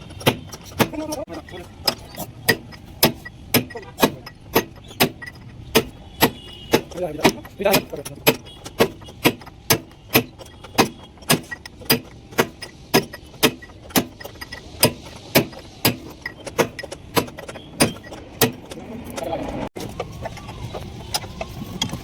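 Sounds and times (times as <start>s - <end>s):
hammer striking metal: 0.0s - 20.0s.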